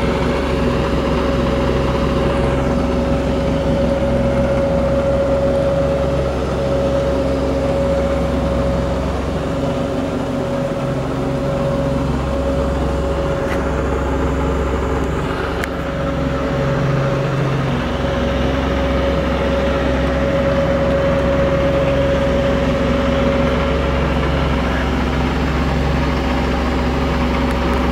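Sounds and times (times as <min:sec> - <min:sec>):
electric motor humming and whining: 0:00.0 - 0:27.9.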